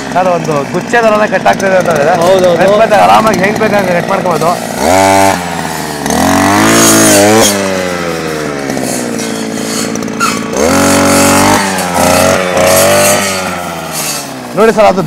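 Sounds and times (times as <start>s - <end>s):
brush cutter engine revving: 0.0s - 15.0s.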